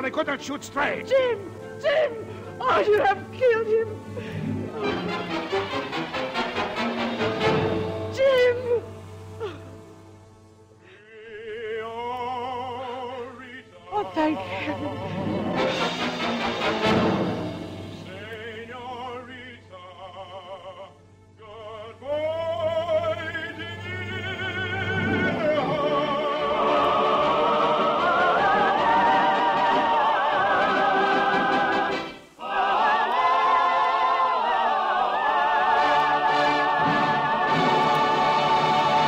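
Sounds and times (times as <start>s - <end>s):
operatic singing with vibrato: 0.0s - 10.2s, 10.8s - 39.0s
musical accompaniment: 0.0s - 10.8s, 13.3s - 19.8s, 21.3s - 39.0s.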